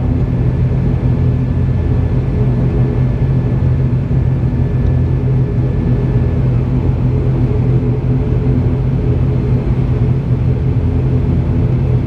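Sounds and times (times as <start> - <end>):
thin high engine whine: 0.0 - 12.0
turboprop engine drone: 0.0 - 12.0.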